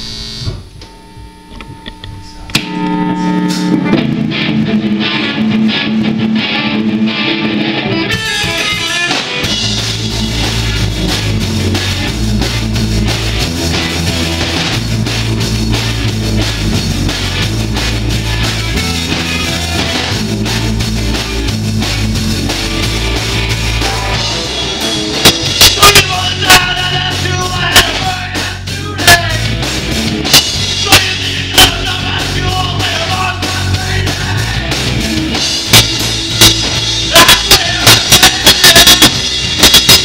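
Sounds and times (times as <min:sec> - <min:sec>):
bass and drums: 0:00.0 - 0:40.0
electric guitar: 0:00.0 - 0:40.0.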